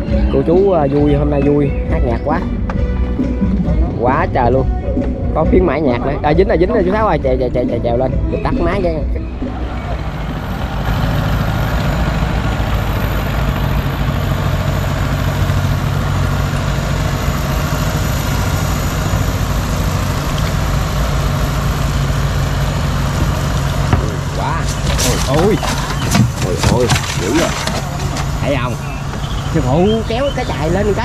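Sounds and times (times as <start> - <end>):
small boat engine droning: 0.0 - 31.0.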